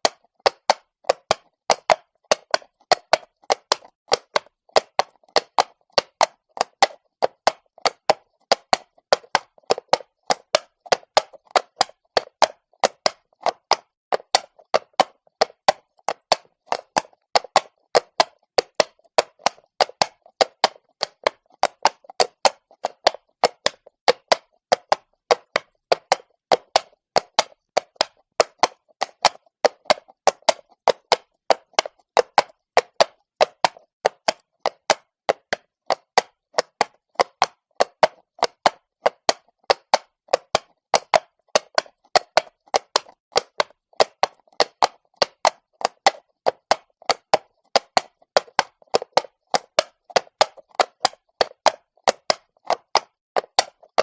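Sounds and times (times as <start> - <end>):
horse hooves clopping on cobblestone: 0.0 - 54.0.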